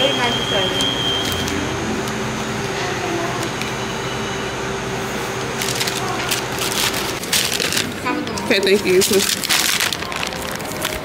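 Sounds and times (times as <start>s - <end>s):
ventilation hum and hiss: 0.0s - 11.0s.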